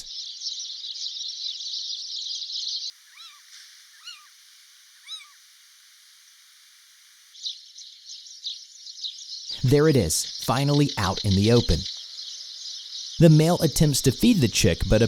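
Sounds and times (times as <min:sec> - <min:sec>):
bird calls: 0:00.0 - 0:04.4, 0:05.0 - 0:05.4, 0:07.4 - 0:15.0
insects chorus: 0:00.0 - 0:15.0.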